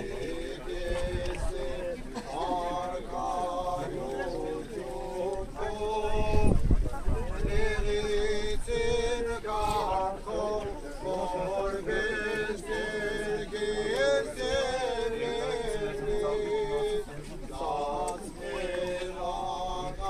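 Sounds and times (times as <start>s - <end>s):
men chanting: 0.0s - 6.4s, 7.3s - 20.0s.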